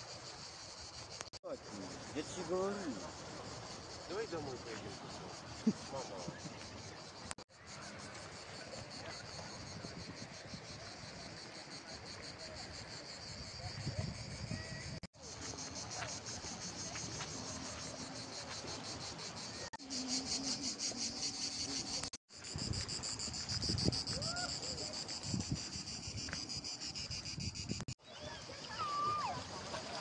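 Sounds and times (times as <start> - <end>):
cicadas pulsing drone: 0.0 - 30.0.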